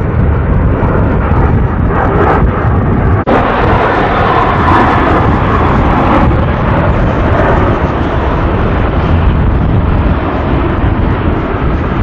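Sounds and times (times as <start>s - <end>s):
jet engines roaring: 0.0s - 12.0s
wind rumbling on microphone: 0.0s - 12.0s.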